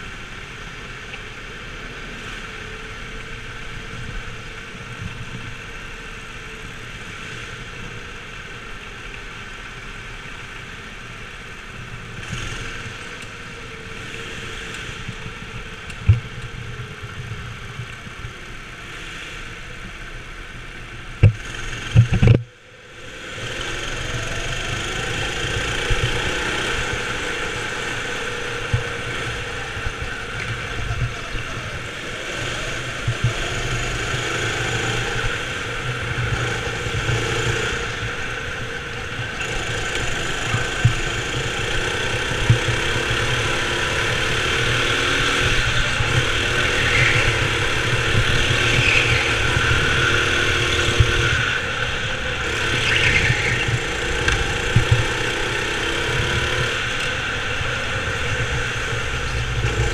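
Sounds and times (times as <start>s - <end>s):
go-kart motor running: 0.0s - 59.9s.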